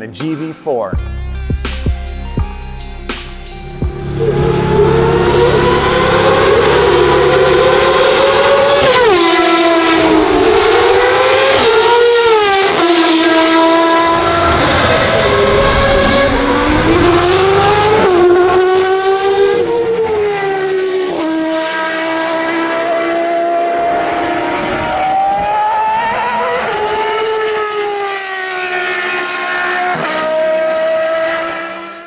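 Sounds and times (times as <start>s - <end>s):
racing car engine at high revs: 3.4s - 32.0s.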